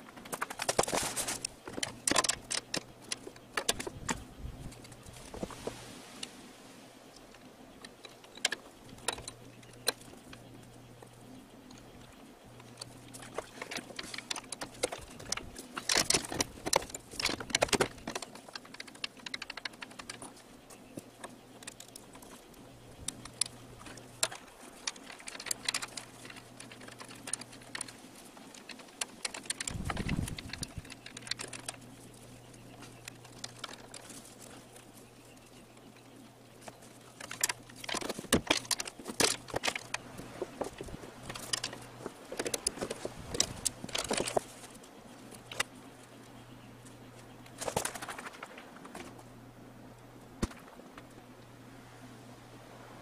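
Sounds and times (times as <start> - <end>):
small clicks and rattles of parts: 0.0 - 6.4, 7.1 - 49.3
faint low hum: 0.0 - 53.0.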